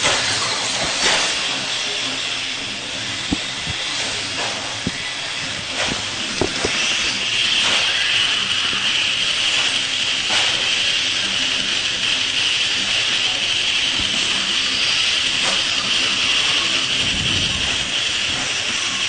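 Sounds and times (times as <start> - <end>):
rc truck motors whining: 0.0 - 19.0.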